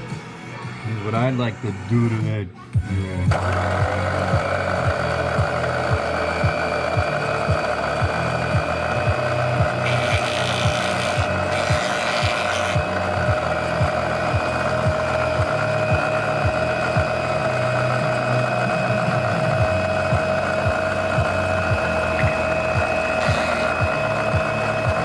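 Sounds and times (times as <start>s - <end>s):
machine hum with high whine: 2.8s - 25.0s
low repeating pulse: 3.4s - 25.0s.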